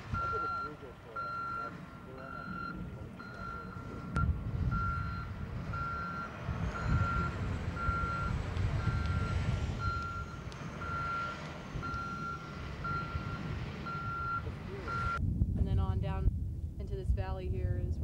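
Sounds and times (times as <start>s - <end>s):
engine low rumble: 0.0s - 18.0s
reversing alarm beeping: 0.1s - 15.2s.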